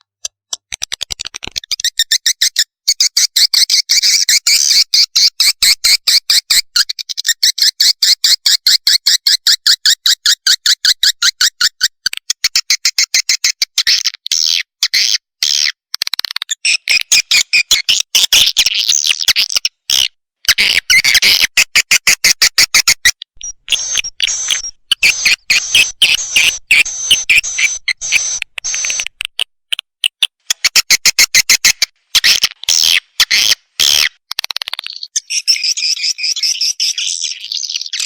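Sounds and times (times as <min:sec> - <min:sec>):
bird chicks chirping rapidly: 0:00.5 - 0:20.0, 0:20.6 - 0:38.0.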